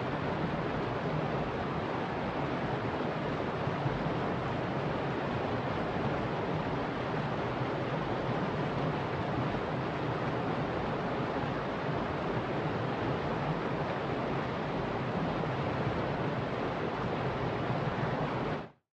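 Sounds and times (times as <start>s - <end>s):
river rushing over rocks: 0.0s - 18.7s.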